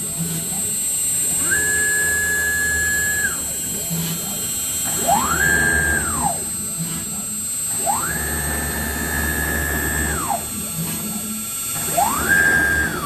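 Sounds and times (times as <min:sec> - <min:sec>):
steady machine hum: 0:00.0 - 0:13.0
stepper motors whining: 0:00.0 - 0:13.0.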